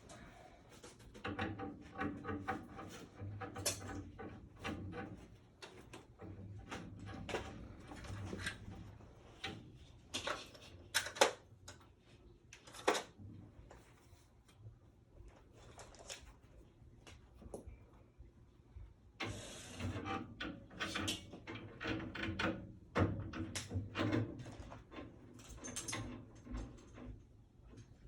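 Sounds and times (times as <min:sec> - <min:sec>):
knocks and clatter of installation work: 0:00.0 - 0:14.6, 0:19.2 - 0:28.0.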